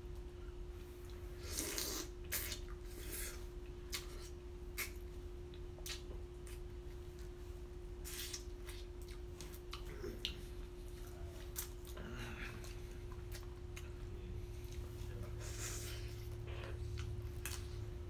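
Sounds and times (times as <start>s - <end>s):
faint steady hum: 0.0s - 18.0s
wet chewing sounds: 1.0s - 18.0s.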